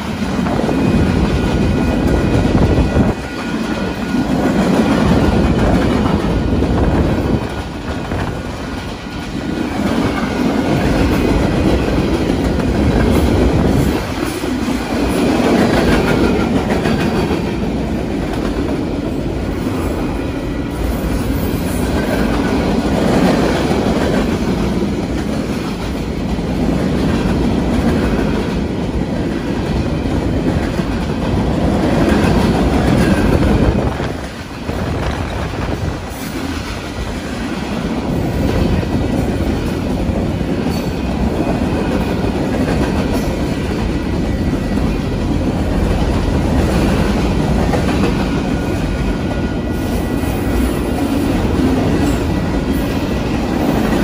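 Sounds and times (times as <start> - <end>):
freight train rumbling past: 0.0 - 54.0
train wheels clacking: 0.0 - 54.0.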